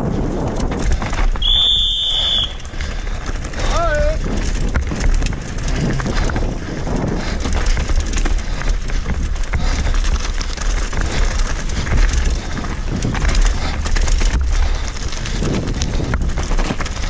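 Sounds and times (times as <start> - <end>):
bike rattling: 0.0 - 17.0
tyres crunching over stones: 0.0 - 17.0
wind rumble on microphone: 0.0 - 17.0.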